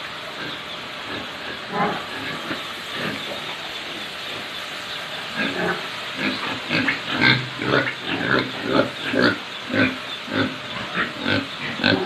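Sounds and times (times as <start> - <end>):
pigs grunting: 0.3 - 12.0.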